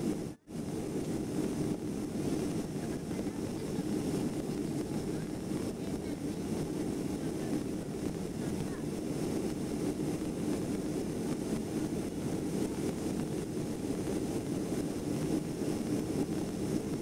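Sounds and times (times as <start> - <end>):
airflow past aircraft fuselage: 0.0 - 17.0
jet engines rushing: 0.0 - 17.0.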